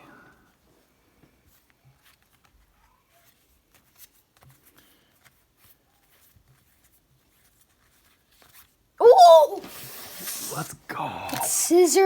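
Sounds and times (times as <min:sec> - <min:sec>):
cards and foil packs rustling: 0:01.5 - 0:08.9, 0:09.5 - 0:12.0.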